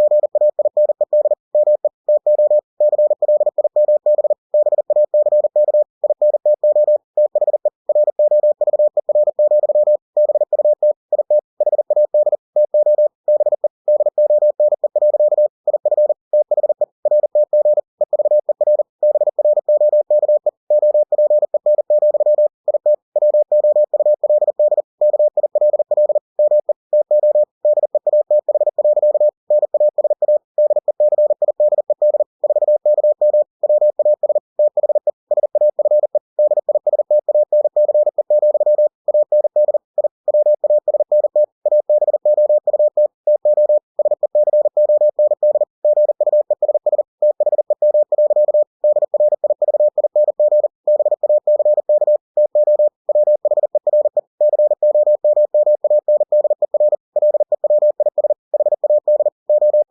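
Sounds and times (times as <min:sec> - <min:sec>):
morse code tone beeping: 0:00.0 - 0:59.9.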